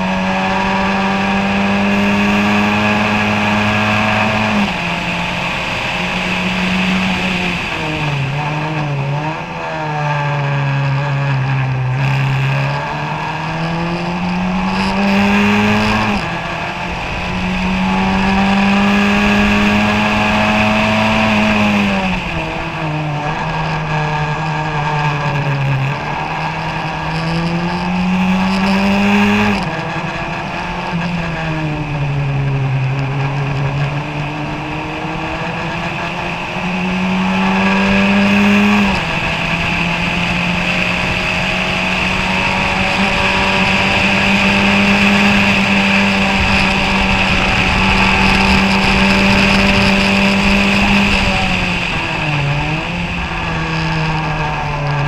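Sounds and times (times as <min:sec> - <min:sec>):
racing car engine: 0:00.0 - 0:55.0.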